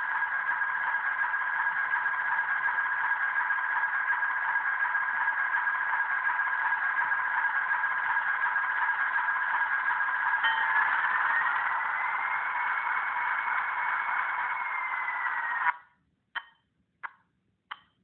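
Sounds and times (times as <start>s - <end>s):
model locomotive diesel engine idle: 0.0s - 15.7s.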